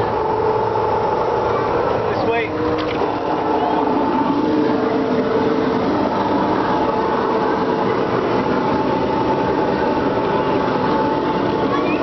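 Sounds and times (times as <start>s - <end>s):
boat motors droning: 0.0s - 12.0s.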